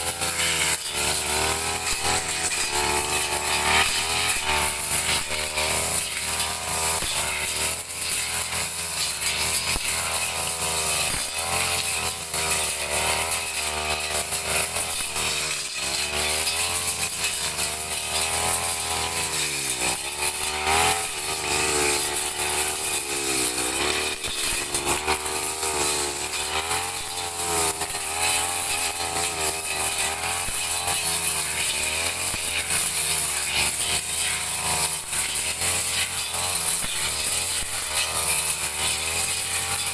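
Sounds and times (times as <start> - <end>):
brush cutter engine at high revs: 0.0 - 39.9.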